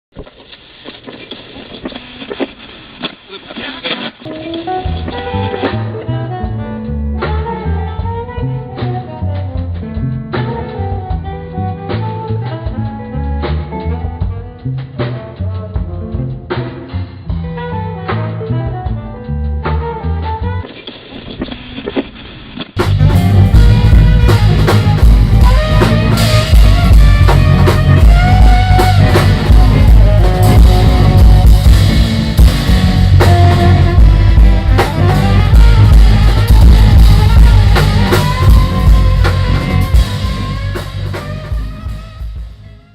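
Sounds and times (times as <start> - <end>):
rock band music: 4.3 - 20.7, 22.8 - 42.9.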